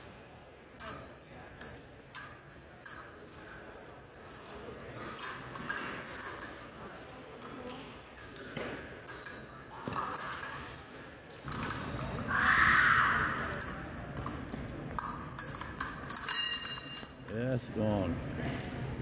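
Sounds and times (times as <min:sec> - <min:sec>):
fencing blades clinking: 0:00.8 - 0:12.6, 0:13.2 - 0:19.0.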